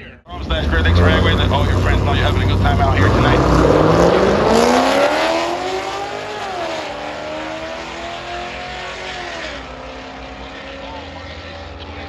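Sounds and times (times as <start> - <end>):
drag car engine accelerating: 0.3 - 12.0.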